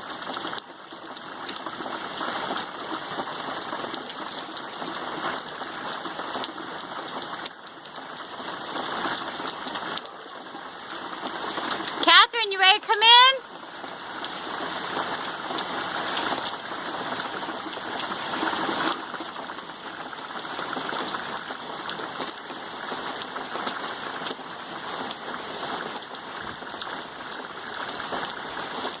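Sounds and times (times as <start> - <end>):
heavy rain pattering: 0.0 - 29.0.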